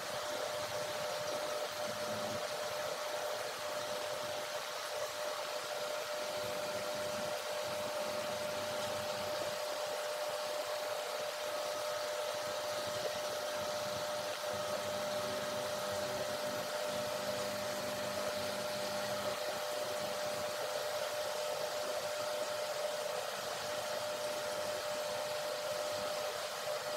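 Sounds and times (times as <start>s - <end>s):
machine whirring with whine: 0.0s - 26.9s.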